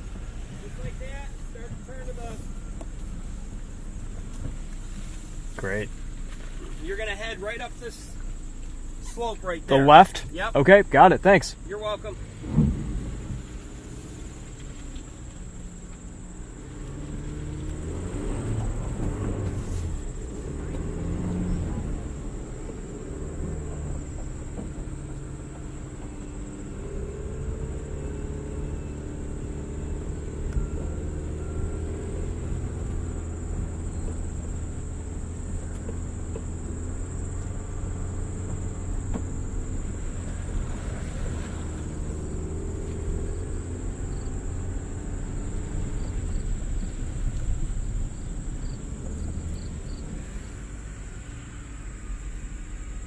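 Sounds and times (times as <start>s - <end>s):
suv engine climbing slope: 0.0s - 53.0s.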